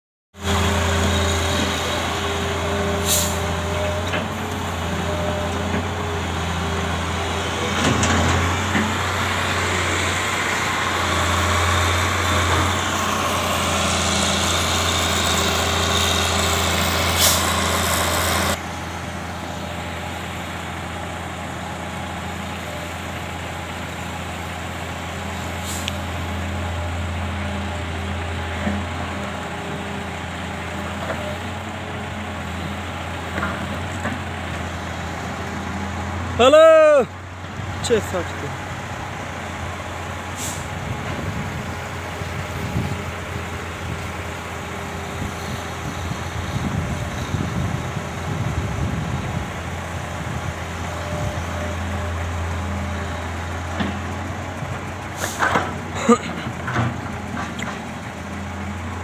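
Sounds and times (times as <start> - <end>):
heavy diesel engines running: 0.4 - 59.0.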